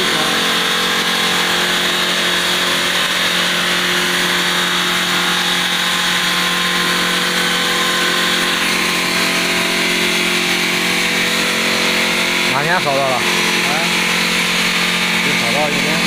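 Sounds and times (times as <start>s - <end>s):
stone saw hum: 0.0s - 16.0s.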